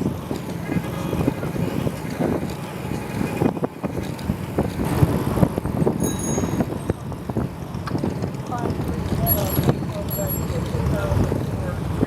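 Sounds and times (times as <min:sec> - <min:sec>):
wind on microphone: 0:00.0 - 0:10.0
bicycle rattling over pavement: 0:00.0 - 0:12.0.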